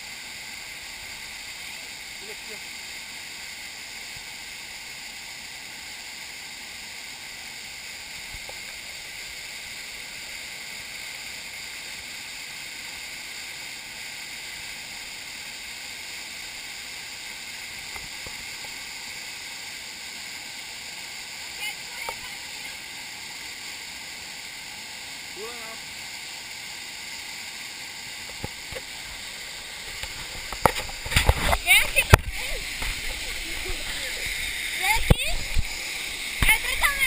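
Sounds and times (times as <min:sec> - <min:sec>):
small waterfall pouring: 0:00.0 - 0:37.0.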